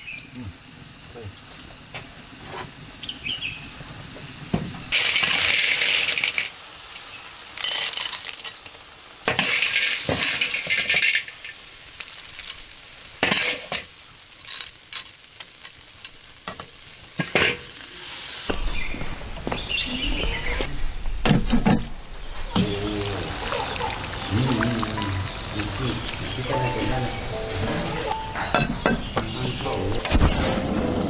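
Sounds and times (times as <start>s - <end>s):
food sizzling in a wok: 0.0s - 18.9s, 22.3s - 31.0s.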